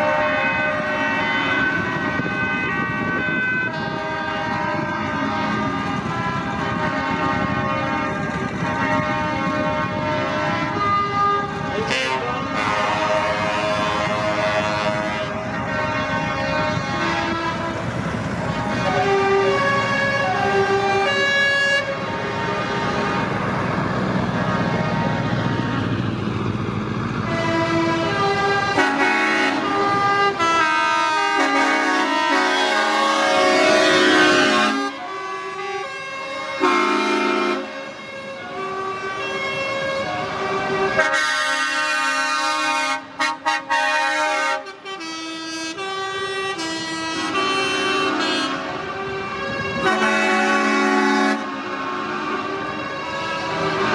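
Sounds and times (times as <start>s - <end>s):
diesel engines rumbling: 0.0s - 53.9s
truck air horns blaring: 0.0s - 53.9s.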